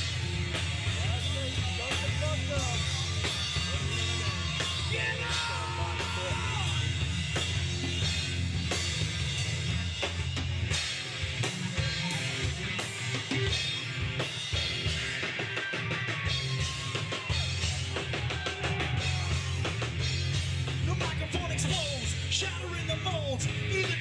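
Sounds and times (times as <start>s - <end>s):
bass guitar: 0.0s - 24.0s
drum kit beating: 0.0s - 24.0s
electric guitar: 0.0s - 24.0s.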